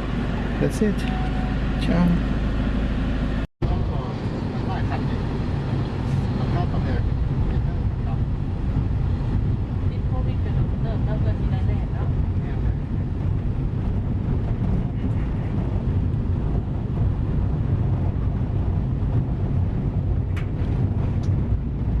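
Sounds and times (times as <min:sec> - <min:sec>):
van interior rumble: 0:00.0 - 0:22.0.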